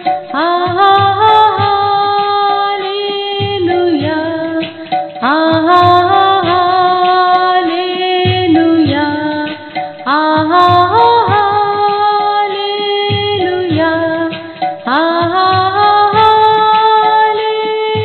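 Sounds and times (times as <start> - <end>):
instrumental accompaniment: 0.0 - 18.0
woman singing devotional song: 0.1 - 18.0.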